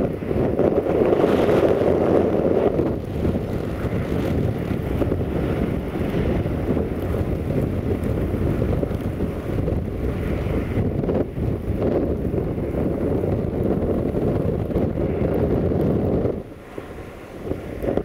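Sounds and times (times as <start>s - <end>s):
train rumbling: 0.0s - 18.0s
wind buffeting microphone: 0.0s - 18.0s.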